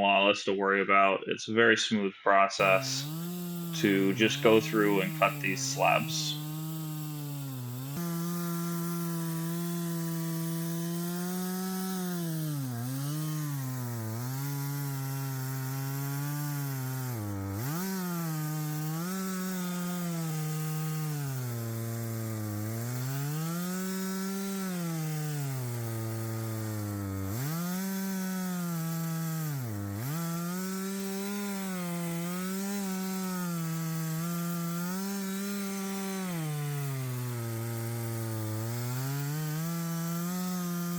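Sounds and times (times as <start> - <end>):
chainsaw cutting wood: 2.6 - 40.9.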